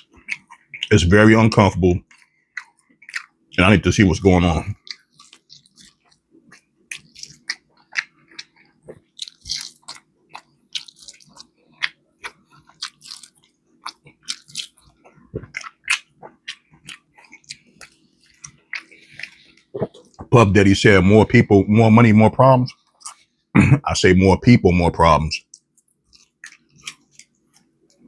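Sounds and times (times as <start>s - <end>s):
person chewing crunchy food: 0.0s - 21.4s, 22.7s - 23.4s, 25.4s - 28.0s
faint steady hum: 0.0s - 28.0s.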